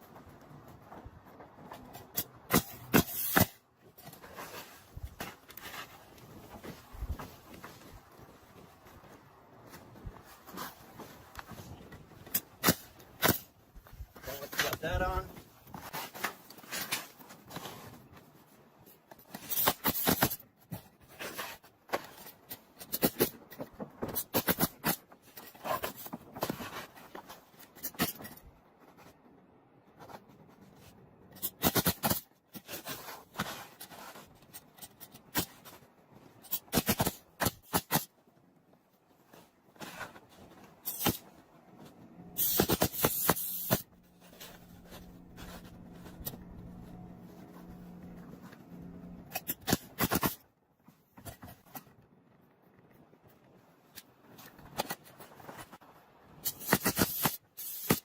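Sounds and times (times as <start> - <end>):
shingles rustling and scraping: 0.0 - 58.0.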